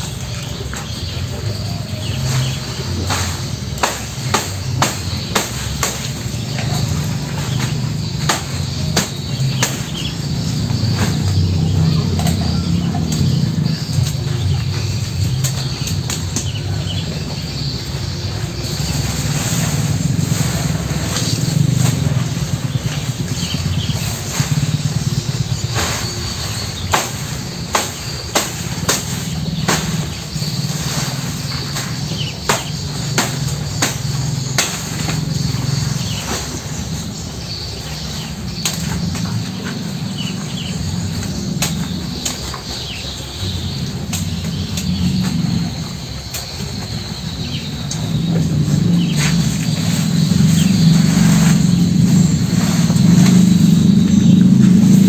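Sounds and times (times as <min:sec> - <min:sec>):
birds chirping: 0:00.0 - 0:55.0
insects buzzing: 0:00.0 - 0:55.0.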